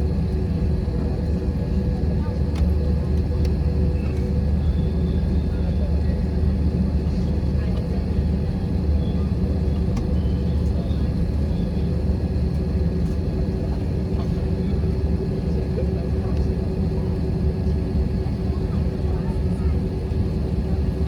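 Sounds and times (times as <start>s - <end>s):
airliner cabin engine rumble: 0.0s - 21.0s
constant hum: 0.0s - 21.0s.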